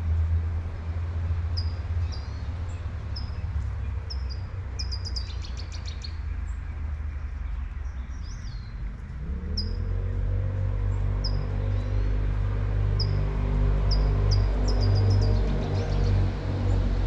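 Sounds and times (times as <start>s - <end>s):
bird chirping: 1.5s - 10.3s, 10.9s - 16.9s.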